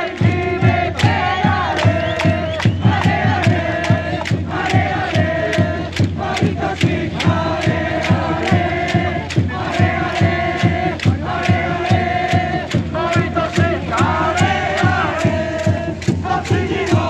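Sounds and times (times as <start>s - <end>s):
football supporters chanting: 0.0s - 17.0s
steady drumbeat: 0.0s - 17.0s.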